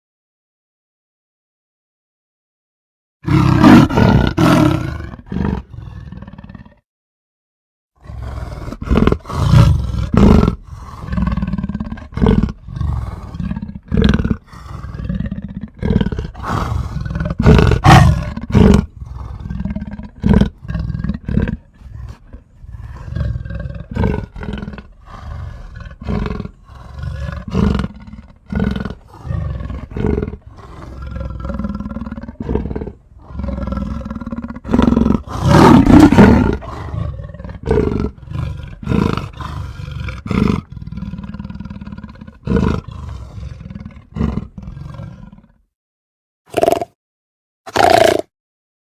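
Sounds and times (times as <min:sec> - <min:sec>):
wolf growling and snarling: 0:03.2 - 0:06.8, 0:08.0 - 0:45.6, 0:47.7 - 0:48.3.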